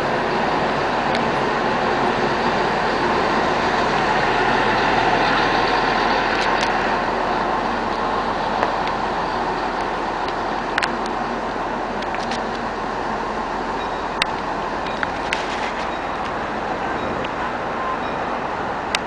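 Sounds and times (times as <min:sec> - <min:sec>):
train engine rumbling: 0:00.0 - 0:19.0.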